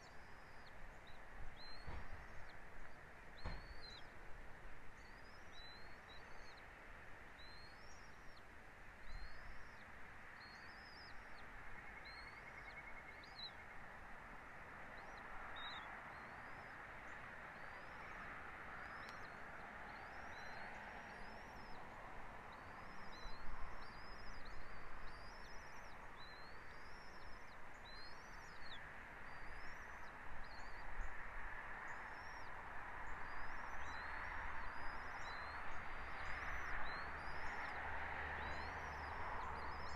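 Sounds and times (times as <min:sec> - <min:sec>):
bird chirping: 0:00.0 - 0:04.1, 0:05.0 - 0:06.6, 0:07.4 - 0:08.4, 0:09.0 - 0:13.8, 0:14.9 - 0:31.2, 0:31.9 - 0:39.9.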